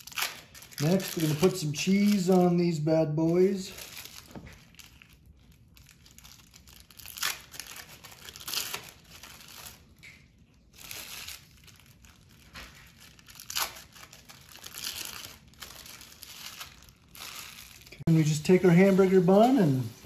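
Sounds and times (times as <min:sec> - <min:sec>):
plastic wrappers crinkling: 0:00.0 - 0:20.0.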